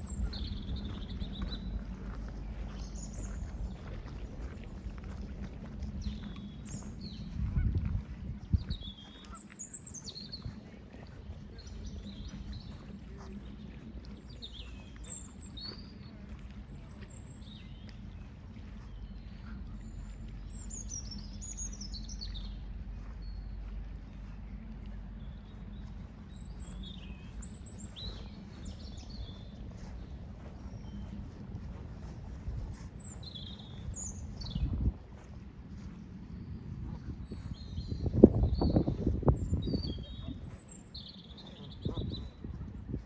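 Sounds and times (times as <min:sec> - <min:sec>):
low outdoor rumble: 0:00.0 - 0:43.0
small songbirds chirping: 0:00.0 - 0:43.0.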